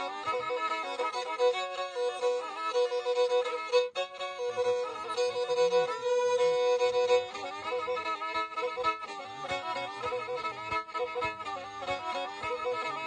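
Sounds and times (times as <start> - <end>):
bowed fiddle playing folk melody: 0.0 - 13.0.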